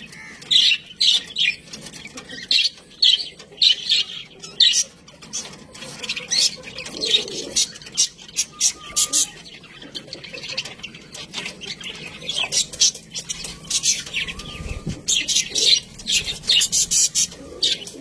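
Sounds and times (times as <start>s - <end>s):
budgerigars chirping: 0.0s - 18.0s.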